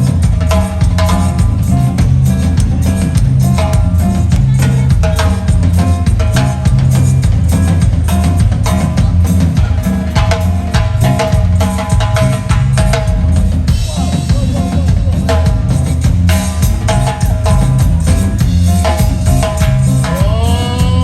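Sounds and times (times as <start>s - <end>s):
bass drum and snare strokes: 0.0s - 21.0s
live band music: 0.0s - 21.0s.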